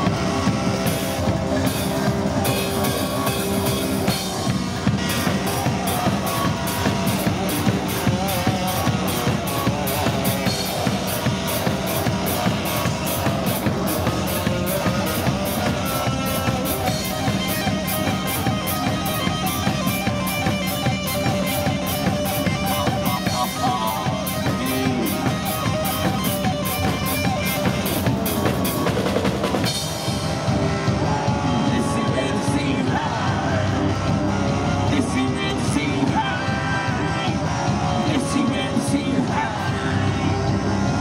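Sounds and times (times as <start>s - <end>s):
amplified band music: 0.0s - 41.0s
guitar: 0.0s - 41.0s.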